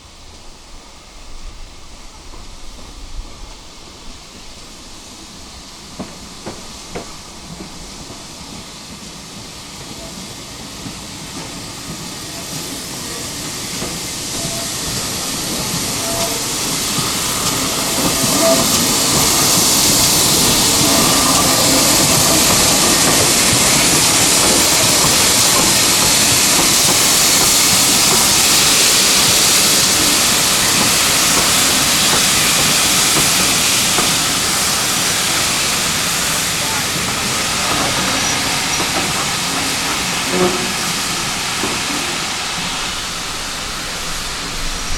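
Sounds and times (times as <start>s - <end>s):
steam locomotive hissing: 0.0s - 44.9s.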